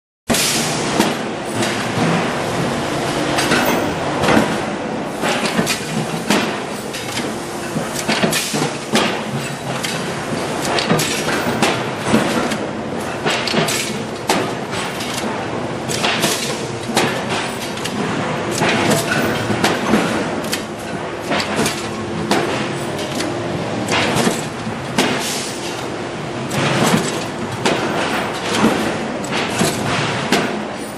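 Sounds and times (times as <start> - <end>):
metal clanks and clatter: 0.3 - 30.9
machine hum: 0.6 - 8.1, 8.8 - 30.9.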